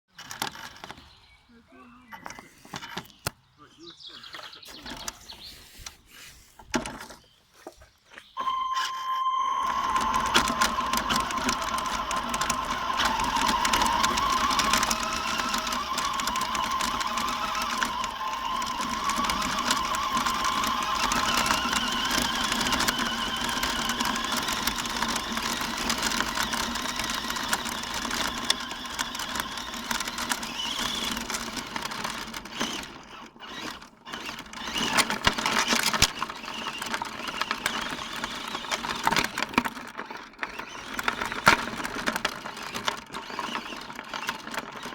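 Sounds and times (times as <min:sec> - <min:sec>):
radio-controlled car motor whining: 0:08.4 - 0:44.9.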